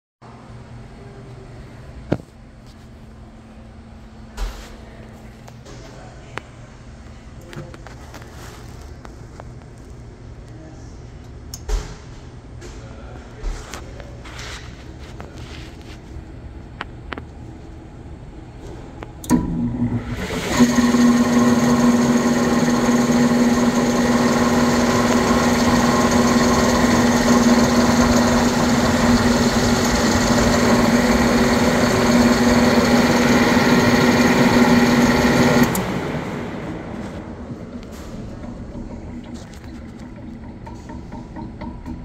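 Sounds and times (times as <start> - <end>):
blower fan humming and whirring: 0.2 - 42.0.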